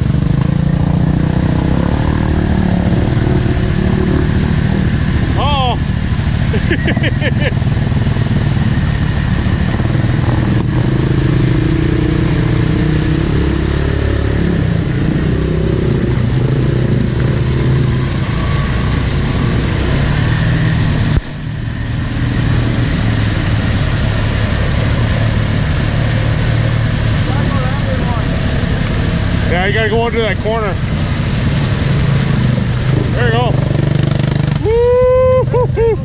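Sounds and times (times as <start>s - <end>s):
off-road vehicle engine revving: 0.0s - 36.0s.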